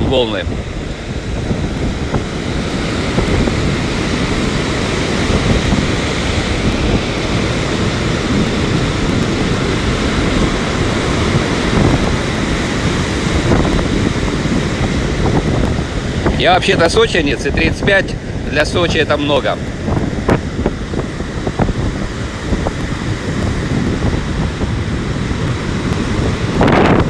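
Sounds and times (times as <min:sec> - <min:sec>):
sea surf: 0:00.0 - 0:27.0
wind buffeting microphone: 0:00.0 - 0:27.0.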